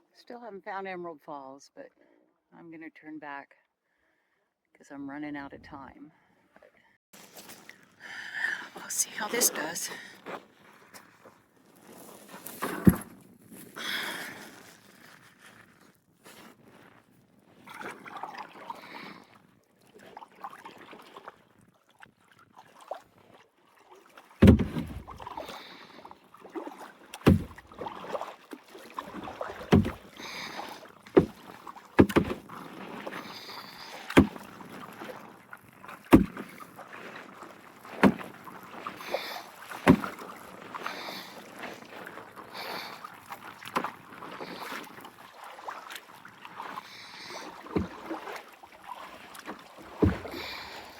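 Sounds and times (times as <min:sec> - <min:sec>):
paddle splashing through water: 0:06.6 - 0:50.9.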